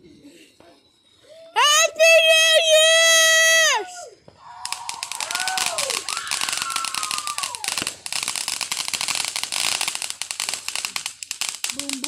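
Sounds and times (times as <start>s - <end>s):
fireworks crackling: 1.6s - 12.0s.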